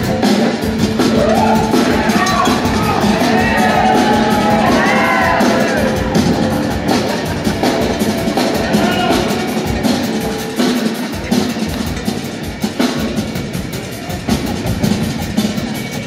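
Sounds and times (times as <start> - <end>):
drum kit hitting: 0.0 - 16.0
live rock band playing: 0.0 - 16.0.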